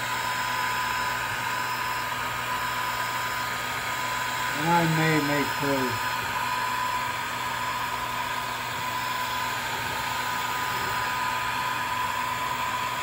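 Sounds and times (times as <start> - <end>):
laser engraver whirring: 0.0 - 13.0.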